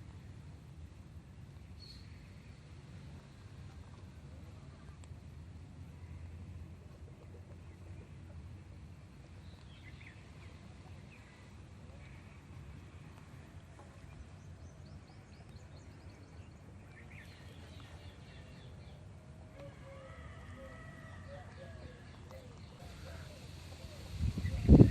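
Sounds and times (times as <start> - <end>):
low outdoor rumble: 0.0 - 24.9.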